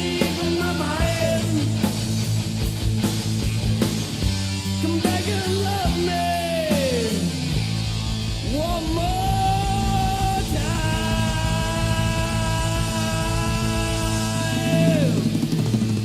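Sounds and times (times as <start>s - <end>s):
bending lead guitar line: 0.0s - 16.0s
heavy metal band playing: 0.0s - 16.0s.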